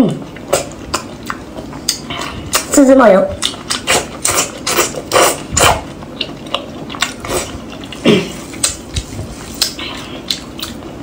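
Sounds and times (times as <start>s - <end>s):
wet biting and chewing: 0.3s - 2.8s, 3.4s - 11.0s.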